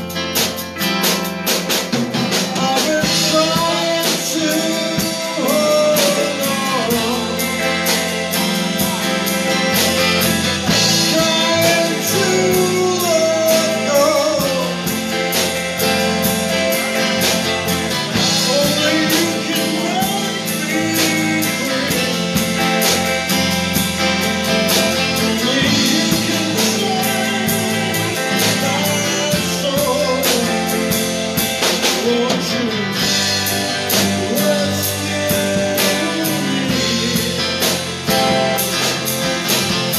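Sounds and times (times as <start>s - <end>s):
bass guitar: 0.0s - 39.9s
drum kit beat: 0.0s - 39.9s
electric guitars: 0.0s - 39.9s.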